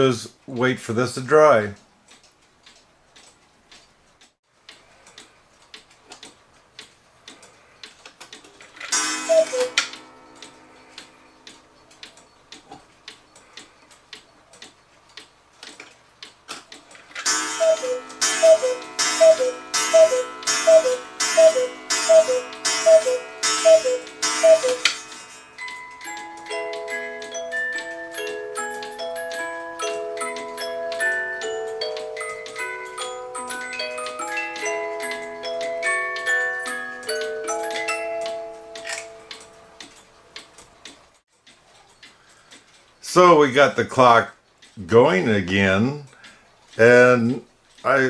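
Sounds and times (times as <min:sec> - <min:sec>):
clock ticking: 0:00.5 - 0:48.0
cuckoo clock call: 0:07.3 - 0:15.2, 0:16.7 - 0:48.0.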